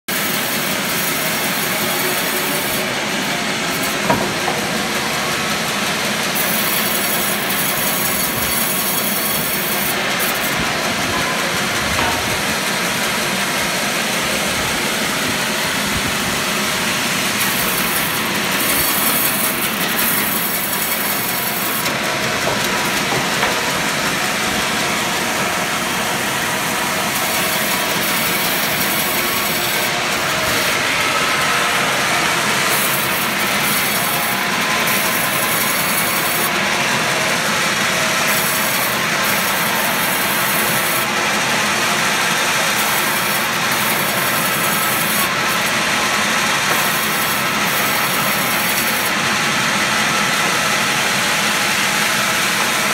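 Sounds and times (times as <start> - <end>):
bandsaw sawing through logs: 0.1 - 52.9.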